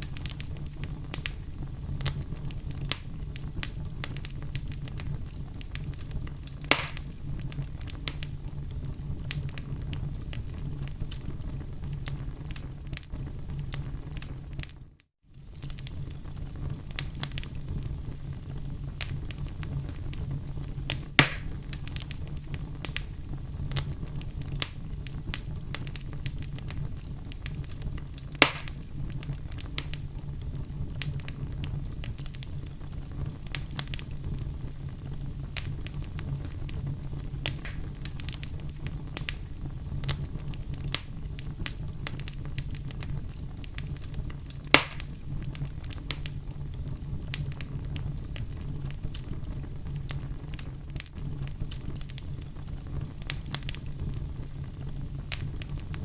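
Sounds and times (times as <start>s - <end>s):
loud pops from fire: 0.0s - 56.0s
wood fire crackling: 0.0s - 56.0s.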